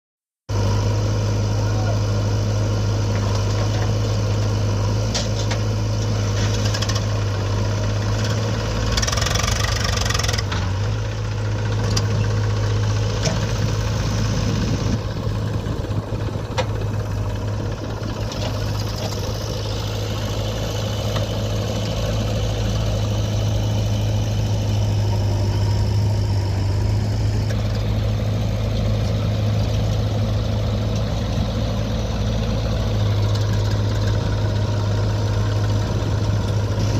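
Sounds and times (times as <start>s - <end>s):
diesel engine running: 0.5s - 36.9s.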